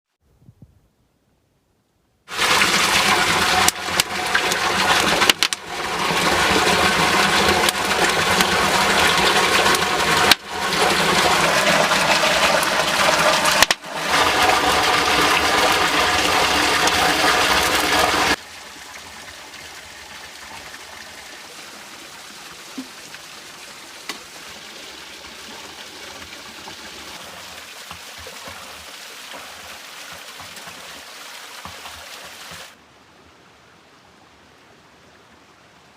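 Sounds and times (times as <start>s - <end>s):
stream water rushing: 2.3s - 35.9s.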